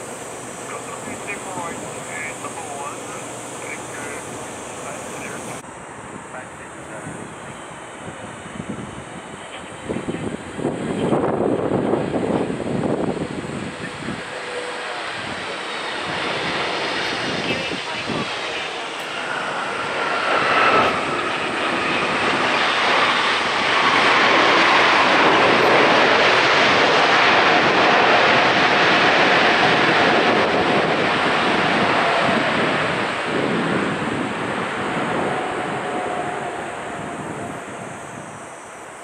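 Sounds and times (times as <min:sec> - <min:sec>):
jet engines passing: 0:00.0 - 0:39.0.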